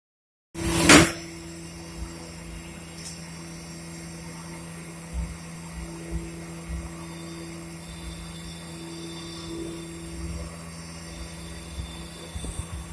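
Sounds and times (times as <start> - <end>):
machine humming: 0.6 - 12.9.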